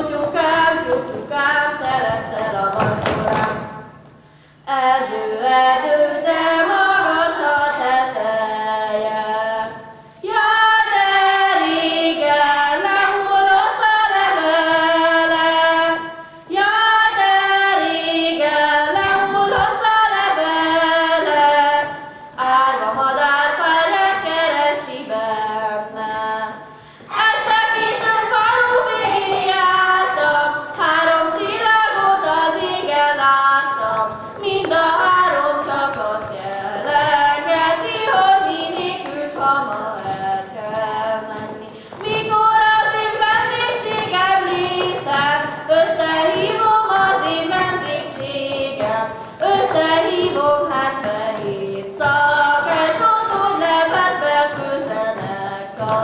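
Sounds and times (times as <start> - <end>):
girls singing without instruments: 0.0 - 56.0.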